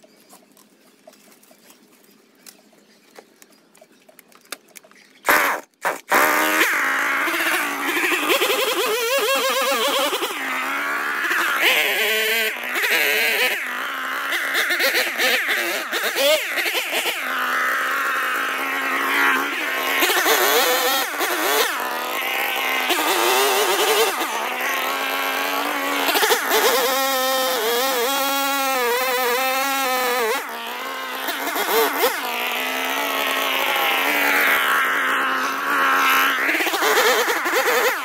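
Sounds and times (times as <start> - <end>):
small engine running: 0.0 - 38.0.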